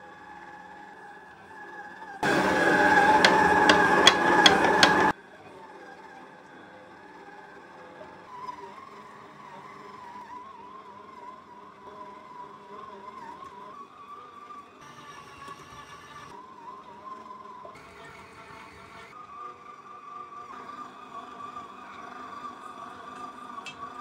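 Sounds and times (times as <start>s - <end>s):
stand mixer motor whining: 0.0s - 24.0s.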